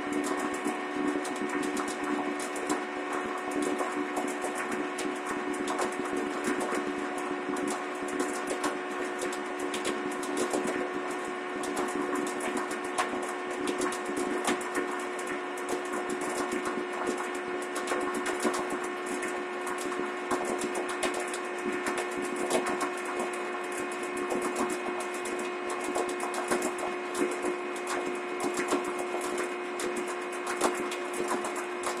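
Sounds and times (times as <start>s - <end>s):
irregular crackling clicks: 0.2s - 32.0s.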